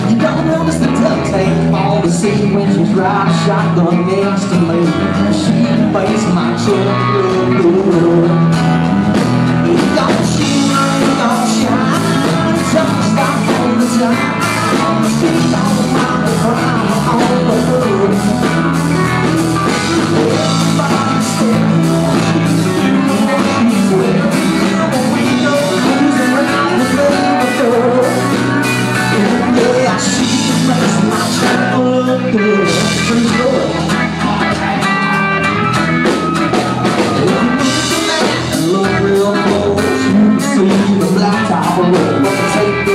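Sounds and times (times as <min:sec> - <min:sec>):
drum kit beat: 0:00.0 - 0:42.9
electric guitar: 0:00.0 - 0:42.9
person singing: 0:00.0 - 0:42.9.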